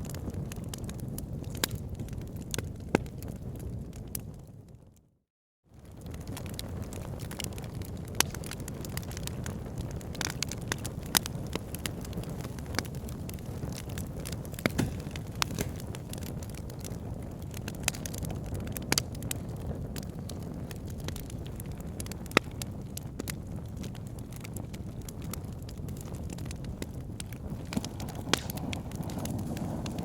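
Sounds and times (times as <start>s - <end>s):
flames rumbling: 0.0s - 5.0s, 5.7s - 30.0s
fire crackling and popping: 0.0s - 5.1s, 5.7s - 30.0s.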